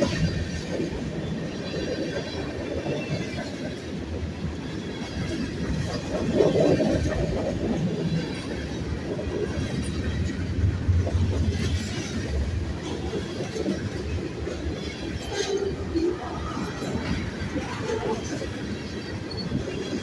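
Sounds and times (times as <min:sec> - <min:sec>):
freight train rumbling past: 0:00.0 - 0:20.0
steel wheels clattering on rail: 0:00.0 - 0:20.0.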